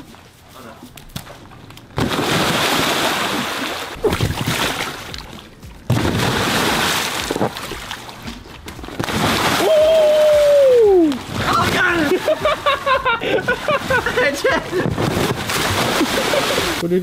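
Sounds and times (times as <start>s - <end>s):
water splashing and sloshing: 0.0s - 16.8s.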